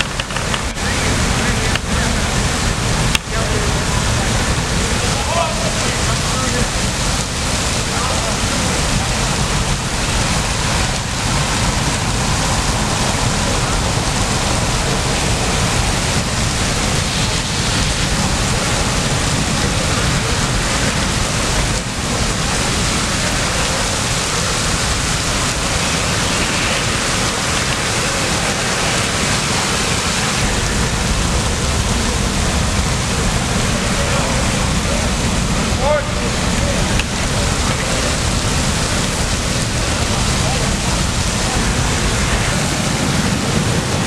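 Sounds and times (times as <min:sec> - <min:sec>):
hose streams spraying: 0:00.0 - 0:44.0
large fire roaring: 0:00.0 - 0:44.0.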